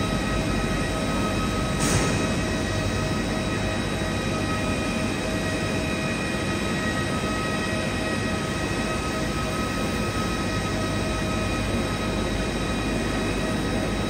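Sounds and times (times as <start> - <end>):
jet turbine whine: 0.0 - 14.0.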